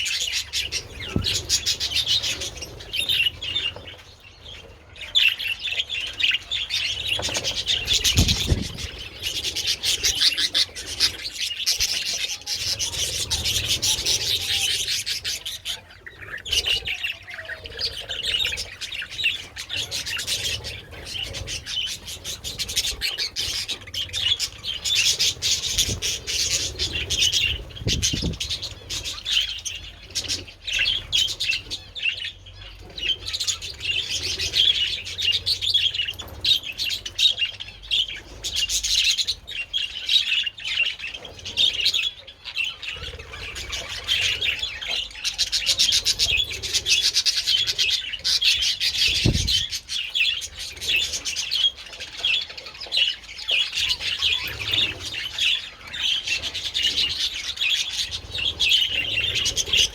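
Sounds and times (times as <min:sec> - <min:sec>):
budgerigars chattering: 0:05.0 - 0:59.9.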